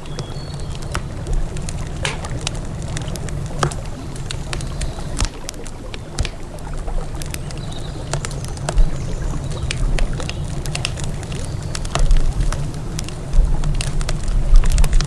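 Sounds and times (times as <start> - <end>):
campfire crackling and popping: 0.0 - 15.0
river water rushing: 0.0 - 15.0.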